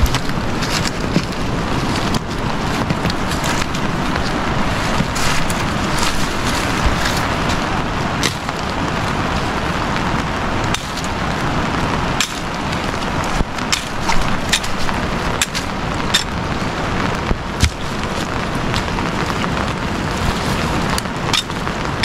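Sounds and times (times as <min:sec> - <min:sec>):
sickle cutting through brush: 0:00.0 - 0:22.0
steady rushing background noise: 0:00.0 - 0:22.0
twigs snapping: 0:00.0 - 0:22.0.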